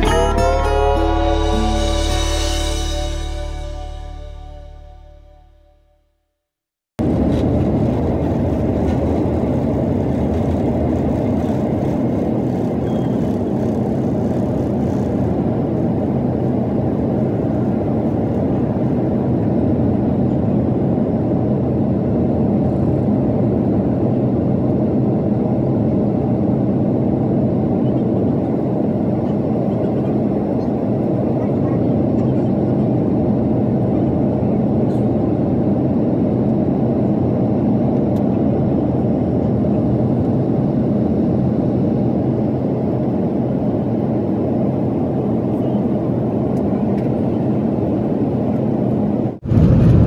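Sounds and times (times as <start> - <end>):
jet engines at takeoff in cabin: 7.0 - 50.0.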